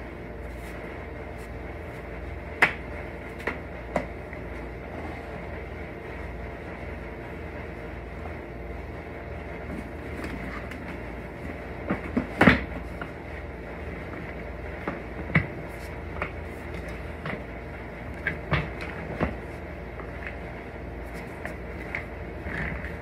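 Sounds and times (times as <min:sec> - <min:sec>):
shop vacuum drone: 0:00.0 - 0:23.0.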